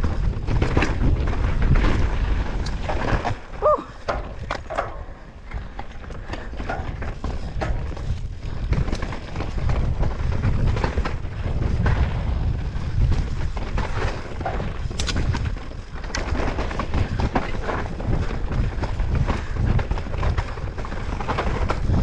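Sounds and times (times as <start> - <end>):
bike clicks and rattles: 0.0 - 22.0
bike tyres on dirt: 0.0 - 22.0
wind buffeting microphone: 0.0 - 22.0.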